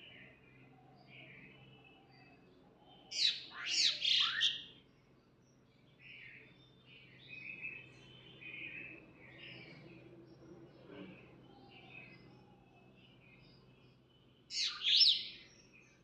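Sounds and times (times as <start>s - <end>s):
birds chirping softly: 0.0s - 16.0s.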